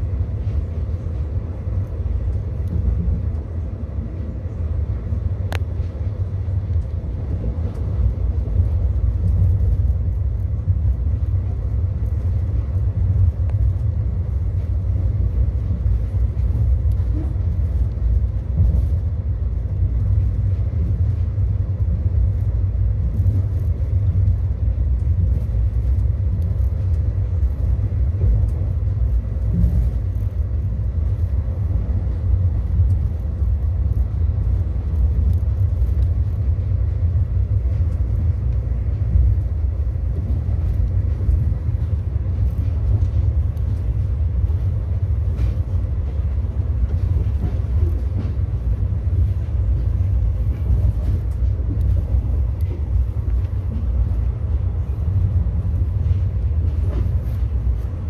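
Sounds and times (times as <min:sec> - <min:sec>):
train coach rumbling at speed: 0:00.0 - 0:58.0.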